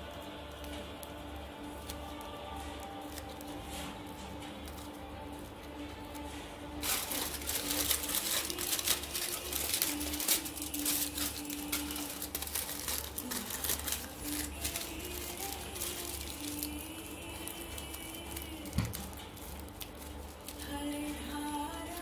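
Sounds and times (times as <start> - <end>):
aluminium foil crumpling: 0.0 - 22.0.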